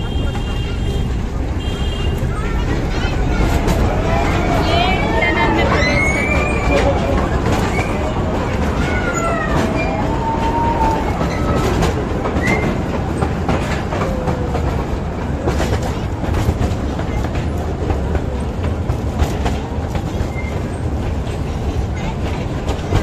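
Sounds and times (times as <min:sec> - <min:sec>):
small train rumbling: 0:00.0 - 0:23.0
wheels clicking over rail joints: 0:00.0 - 0:23.0.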